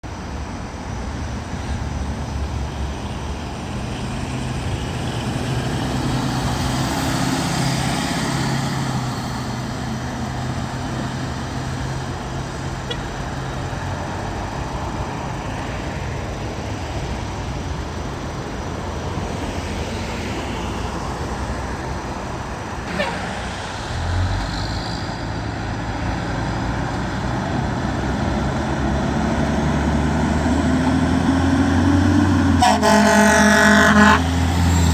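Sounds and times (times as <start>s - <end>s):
fire truck diesel engines: 0.0s - 34.9s
street traffic: 0.0s - 34.9s.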